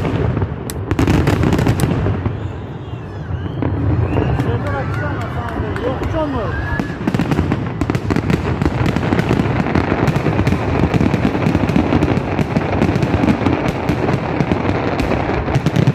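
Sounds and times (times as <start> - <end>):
fireworks crackling and banging: 0.0 - 15.9.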